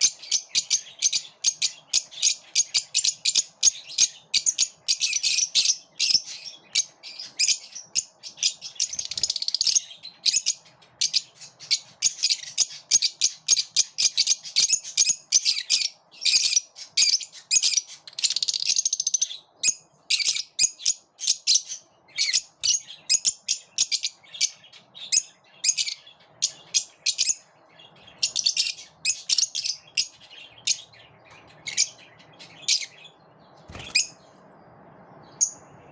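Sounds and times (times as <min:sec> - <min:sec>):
lovebirds chirping: 0:00.0 - 0:35.9.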